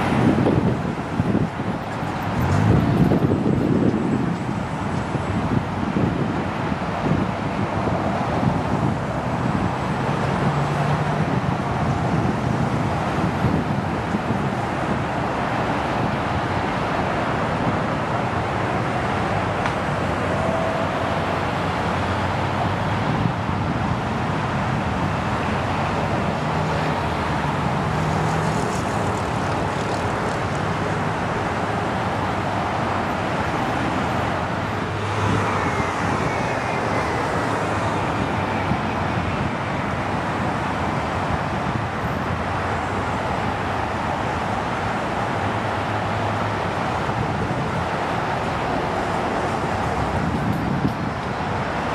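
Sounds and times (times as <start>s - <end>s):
jet airliners roaring on runway: 0.0s - 51.9s.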